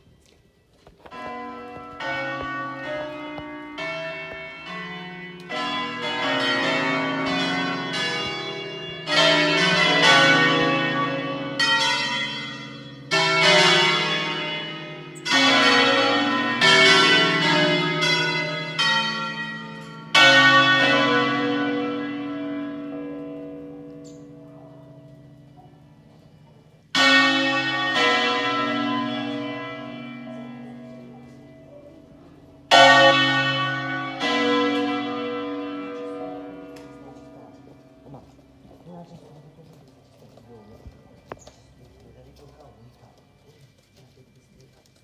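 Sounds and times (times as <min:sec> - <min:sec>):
church bells pealing: 0:00.0 - 0:45.0.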